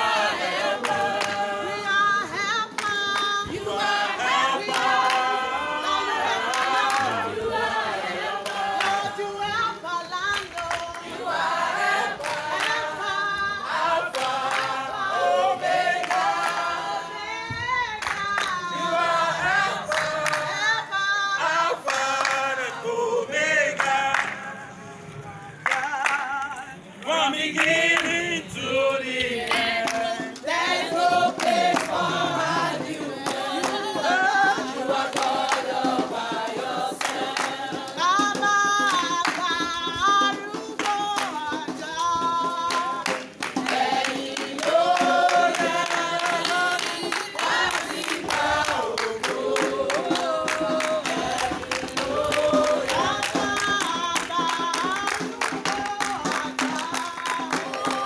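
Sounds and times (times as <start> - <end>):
group singing in chorus: 0.0 - 58.0
hand clapping: 0.4 - 5.4, 6.3 - 7.2, 8.1 - 9.6, 10.2 - 15.2, 17.9 - 18.7, 19.7 - 20.8, 21.5 - 22.5, 23.8 - 24.5, 25.6 - 28.2, 29.2 - 58.0.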